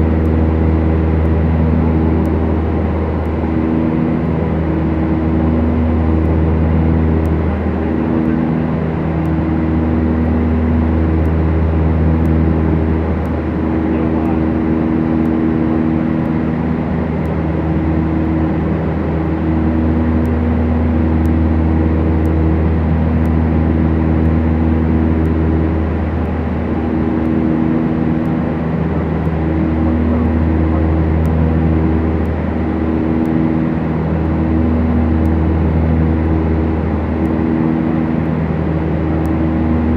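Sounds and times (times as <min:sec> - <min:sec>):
twin piston aircraft engines droning: 0:00.0 - 0:39.9.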